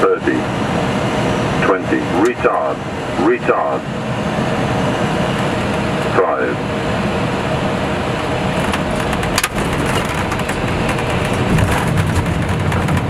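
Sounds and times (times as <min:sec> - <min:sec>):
airflow and engine noise: 0:00.0 - 0:13.0.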